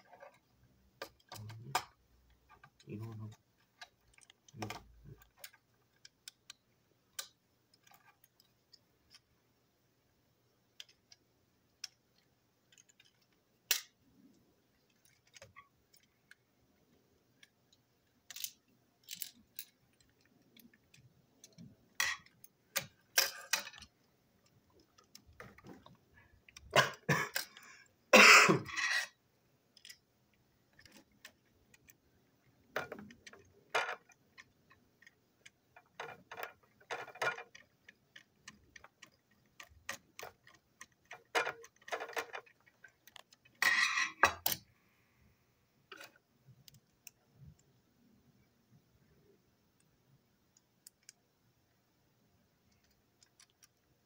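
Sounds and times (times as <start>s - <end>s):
plastic clicks and rattles: 0.0s - 9.3s, 10.7s - 16.4s, 17.3s - 27.7s, 29.8s - 30.0s, 30.7s - 44.7s, 45.9s - 47.7s, 50.5s - 51.2s, 52.7s - 54.0s.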